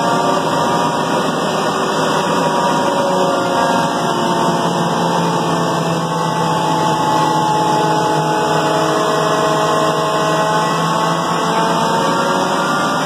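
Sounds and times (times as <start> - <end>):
hydraulic pump mechanical hum: 0.0 - 13.0.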